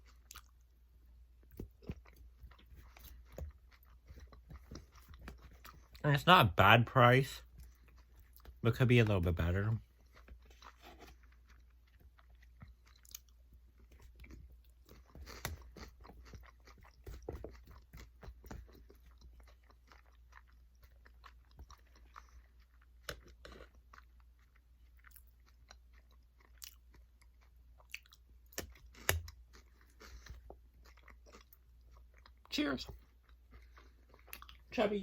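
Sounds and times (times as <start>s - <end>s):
chewing and crunching food: 0.0s - 35.0s.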